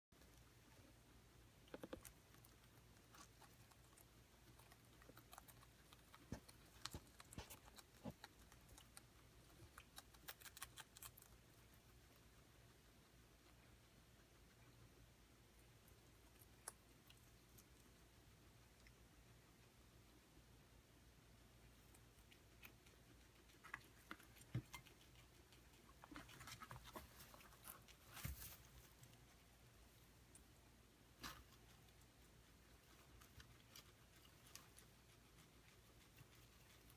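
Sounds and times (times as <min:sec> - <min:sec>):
guinea pigs crunching food: 0:00.1 - 0:36.9.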